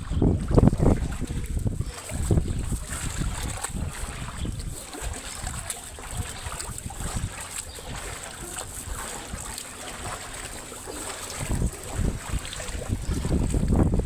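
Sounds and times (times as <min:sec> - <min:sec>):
running floodwater: 0:00.0 - 0:14.0
wind buffeting microphone: 0:00.0 - 0:14.0.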